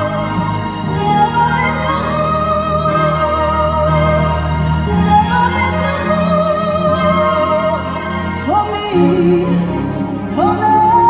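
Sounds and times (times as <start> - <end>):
orchestra sustained low notes: 0.0 - 11.0.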